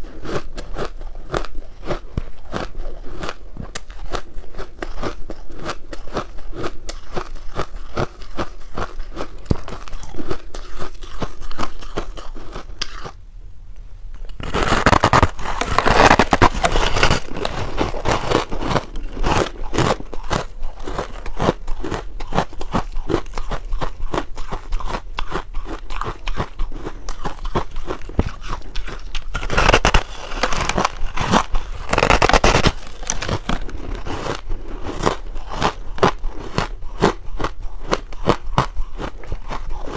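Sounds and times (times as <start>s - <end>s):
crunching ice while chewing: 0.0s - 13.2s, 14.2s - 39.9s.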